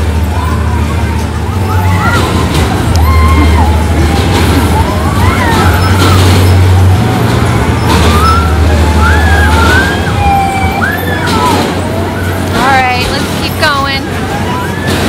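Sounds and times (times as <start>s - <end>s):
loud carnival ride music: 0.0s - 15.0s.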